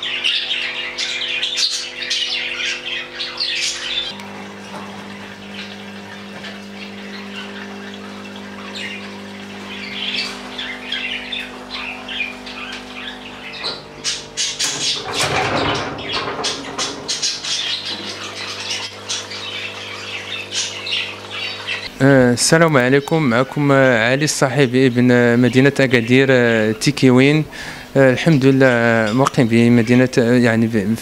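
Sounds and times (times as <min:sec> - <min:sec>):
birds chirping and squawking: 0:00.0 - 0:31.0
steady low hum: 0:00.0 - 0:31.0.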